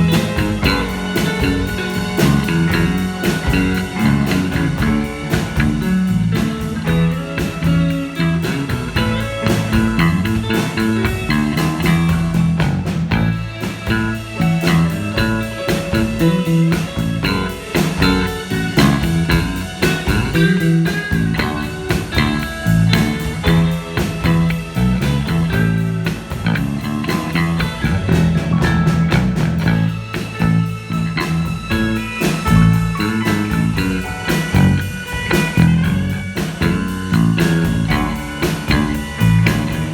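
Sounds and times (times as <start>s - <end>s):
bass guitar: 0.0s - 39.9s
drum beat: 0.0s - 39.9s
guitar: 0.0s - 39.9s.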